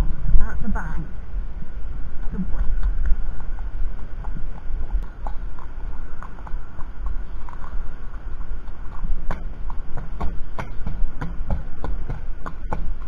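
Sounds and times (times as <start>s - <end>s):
steady low rumble: 0.0s - 13.0s
horse hooves on gravel: 2.1s - 13.0s.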